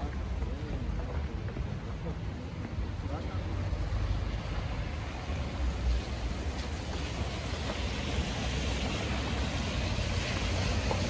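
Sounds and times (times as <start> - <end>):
tyre hiss of traffic: 0.0 - 11.0.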